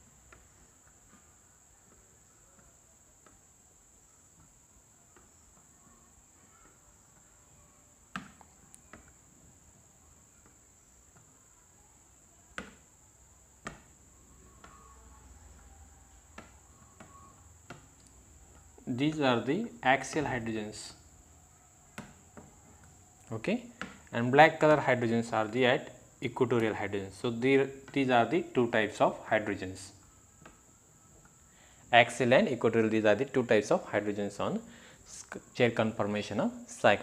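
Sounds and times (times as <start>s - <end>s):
faint high whine: 0.0s - 37.0s.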